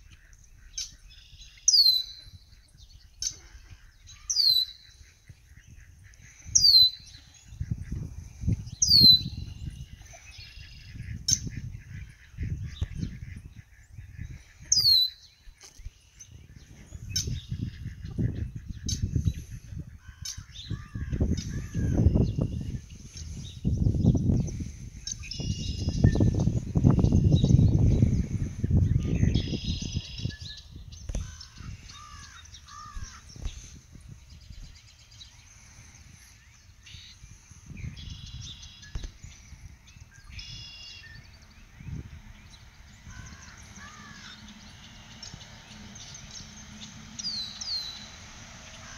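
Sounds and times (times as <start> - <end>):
birds calling: 0.0 - 48.9
wind rumble on microphone: 0.0 - 48.9.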